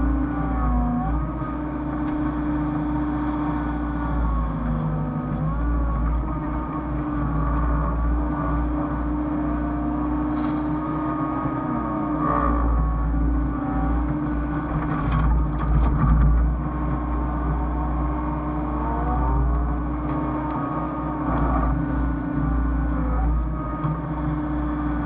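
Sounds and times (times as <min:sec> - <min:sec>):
excavator diesel engine running: 0:00.0 - 0:25.0
whine gliding in pitch: 0:00.0 - 0:25.0.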